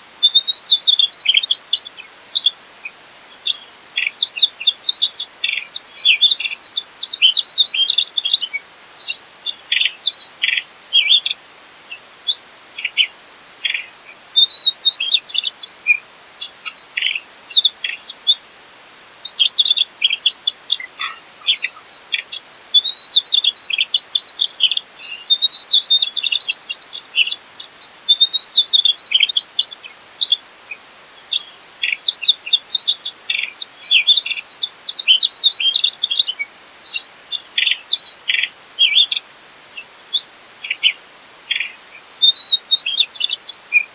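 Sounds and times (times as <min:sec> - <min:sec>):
bird twittering song: 0:00.0 - 0:43.9.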